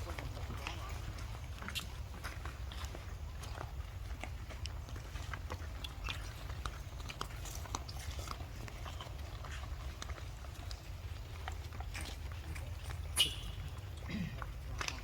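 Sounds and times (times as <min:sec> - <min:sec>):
chewing clicks and crunches: 0:00.0 - 0:15.0.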